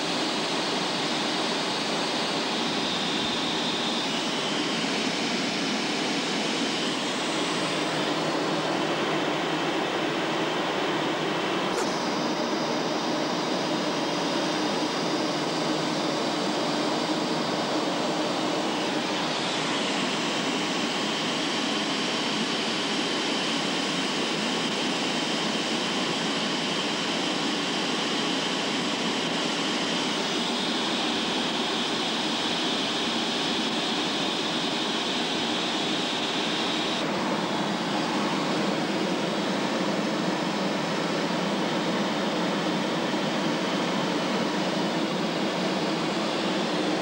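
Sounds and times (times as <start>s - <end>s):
jet engine and airflow noise: 0.0s - 47.0s.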